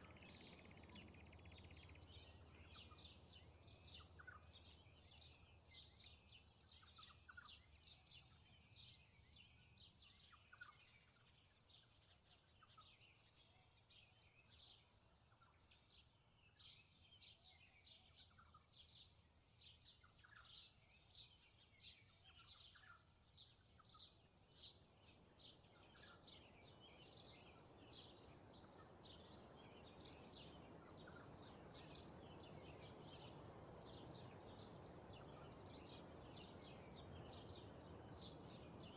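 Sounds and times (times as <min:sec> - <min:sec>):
faint songbirds chirping: 0:00.0 - 0:38.9
wind in grass and trees: 0:00.0 - 0:38.9.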